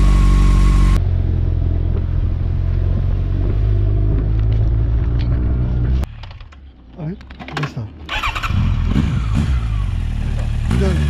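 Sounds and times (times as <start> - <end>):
motorcycle engine running: 0.0 - 6.1, 8.1 - 11.0
road noise: 0.0 - 11.0.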